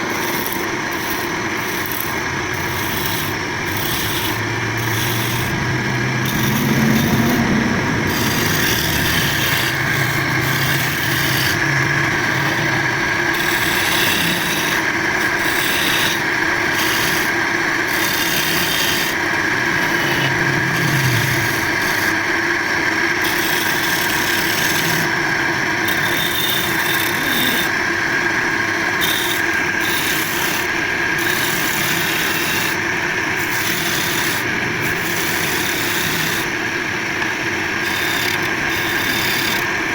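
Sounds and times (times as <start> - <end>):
hand tool rasping wood: 0.0 - 22.3, 23.0 - 28.2, 28.9 - 36.7, 37.7 - 39.8.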